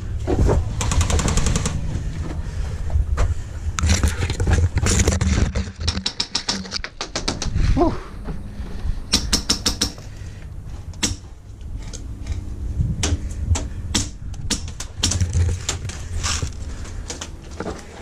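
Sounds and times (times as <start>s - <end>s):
handling noise rumble: 0.0s - 18.0s.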